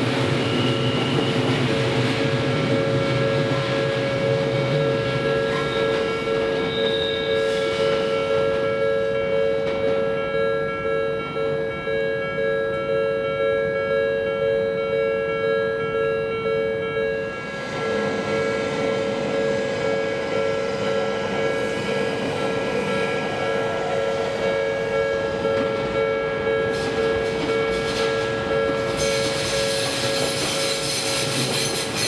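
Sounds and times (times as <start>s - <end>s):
electric train approaching: 0.0s - 32.0s
level crossing alarm bell: 0.2s - 31.0s.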